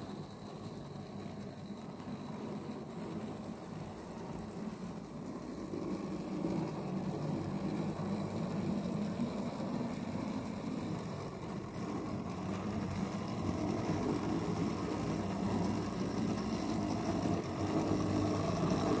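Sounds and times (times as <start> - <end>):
model train wheels rumbling on rail: 0.0 - 19.0.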